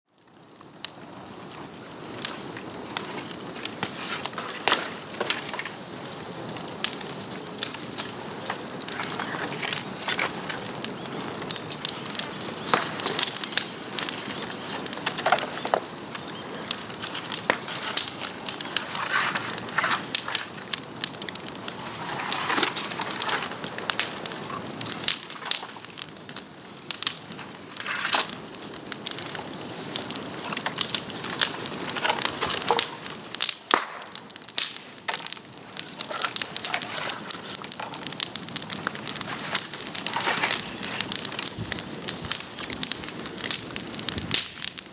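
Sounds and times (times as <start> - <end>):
bamboo bonfire crackling and popping: 0.1 - 44.9.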